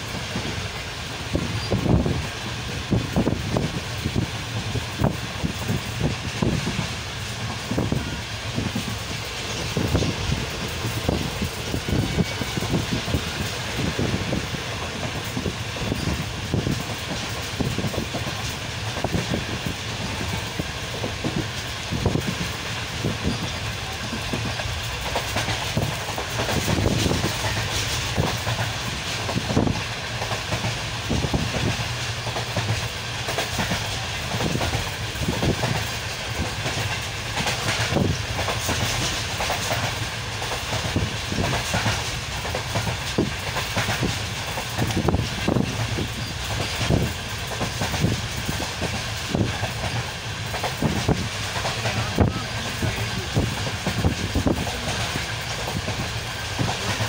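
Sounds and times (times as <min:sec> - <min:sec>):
train rumble and air rush: 0:00.0 - 0:57.0
wheels clacking over rail joints: 0:00.0 - 0:57.0.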